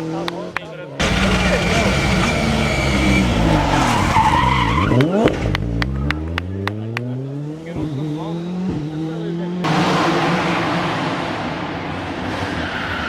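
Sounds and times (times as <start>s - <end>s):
rally car engine revving: 1.0s - 13.0s.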